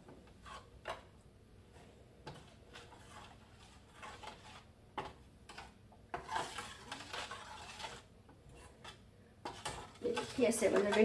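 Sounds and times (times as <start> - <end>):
spoon scraping a cooking pan: 0.0 - 11.0.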